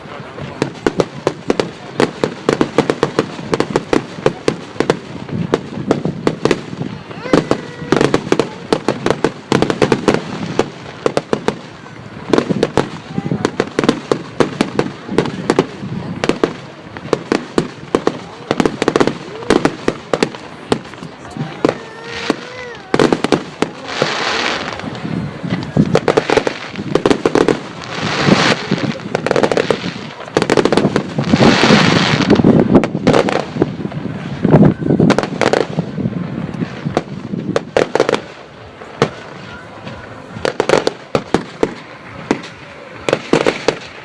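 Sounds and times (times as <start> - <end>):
rapid firework crackling: 0.0 - 44.0.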